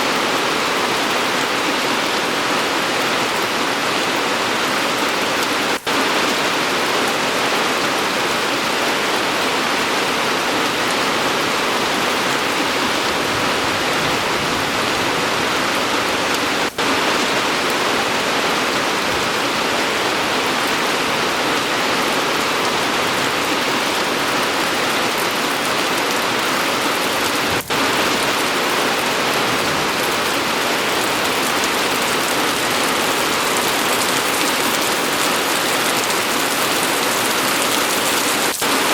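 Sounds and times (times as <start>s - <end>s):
rain pouring: 0.0s - 38.9s.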